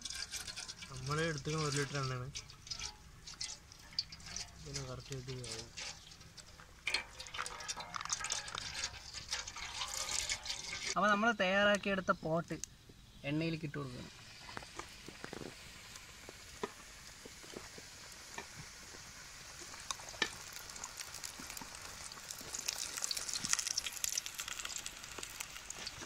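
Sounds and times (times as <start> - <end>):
oil popping: 0.0 - 11.0, 14.2 - 26.0
dough sizzling in hot oil: 0.0 - 12.1, 12.9 - 26.0.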